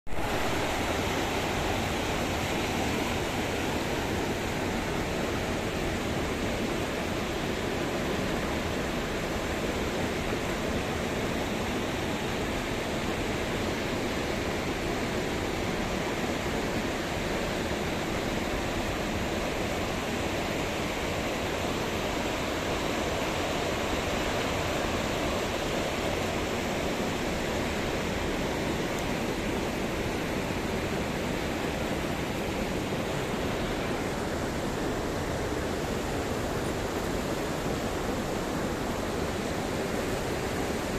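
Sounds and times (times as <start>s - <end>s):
river water rushing: 0.1s - 40.9s.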